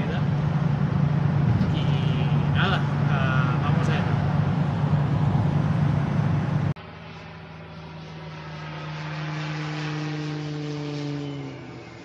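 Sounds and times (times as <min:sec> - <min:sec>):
propeller airplane engine drone: 0:00.0 - 0:12.0
road and engine roar inside van: 0:00.0 - 0:12.0.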